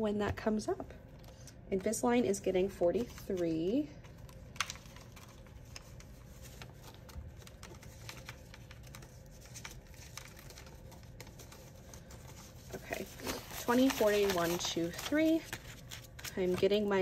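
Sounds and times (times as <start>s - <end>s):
faint steady hum: 0.0s - 17.0s
banknotes rustling: 1.2s - 17.0s.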